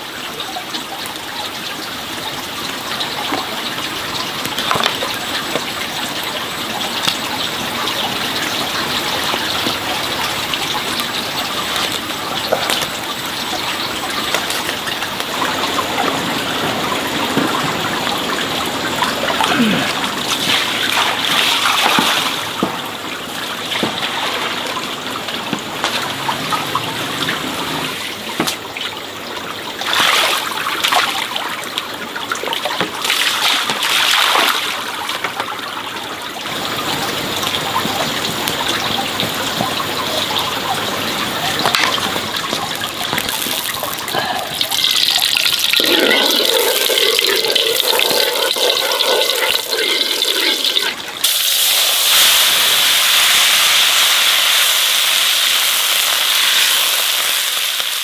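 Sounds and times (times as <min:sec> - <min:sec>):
water pouring and splashing: 0:00.0 - 0:58.0.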